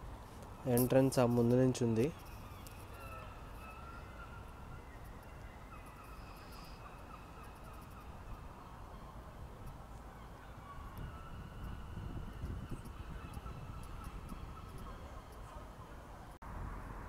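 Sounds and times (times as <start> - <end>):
birds calling: 0.6 - 16.0.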